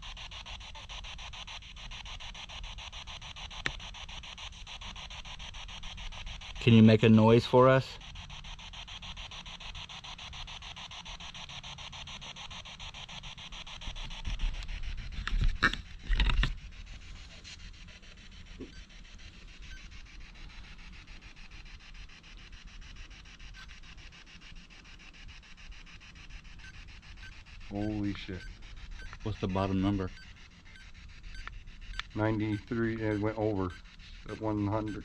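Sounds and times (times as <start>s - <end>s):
crackling bursts: 0.0s - 35.0s
radio static chopped rapidly: 0.0s - 35.0s.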